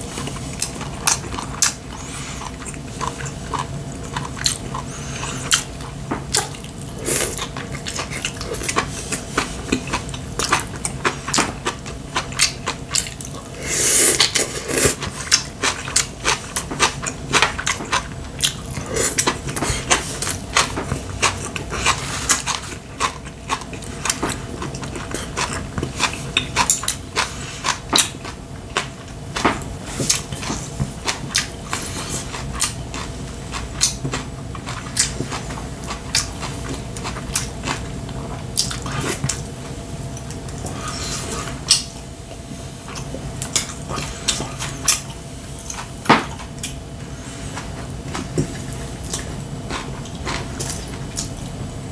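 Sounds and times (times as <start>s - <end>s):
person chewing and smacking: 0.1s - 46.8s, 47.5s - 51.6s.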